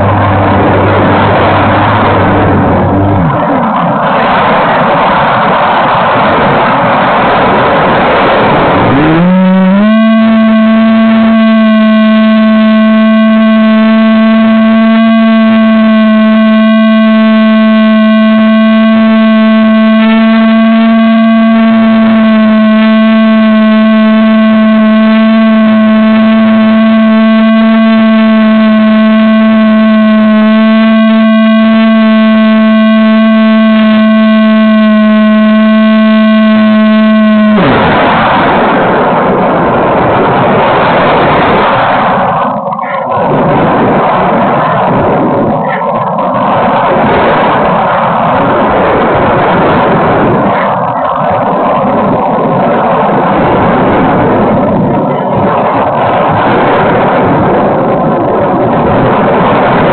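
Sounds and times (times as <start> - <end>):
loud electric buzz: 0.0 - 59.9.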